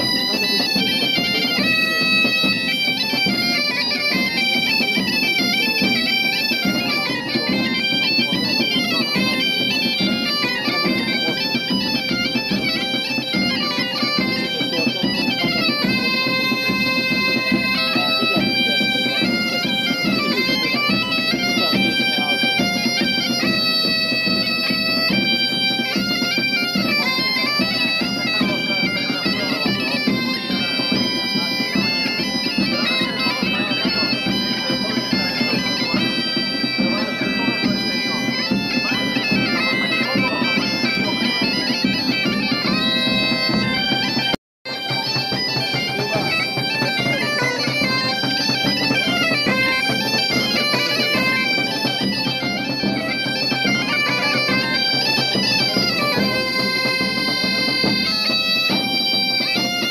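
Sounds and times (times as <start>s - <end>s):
bagpipe music: 0.0s - 59.9s.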